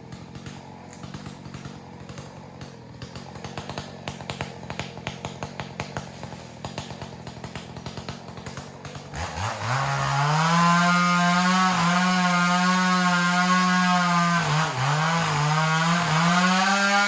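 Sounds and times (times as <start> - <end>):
chainsaw idling: 0.0 - 17.0.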